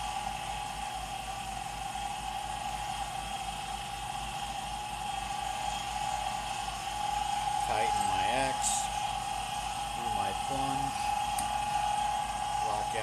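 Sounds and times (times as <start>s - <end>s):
milling spindle motor whine: 0.0s - 13.0s.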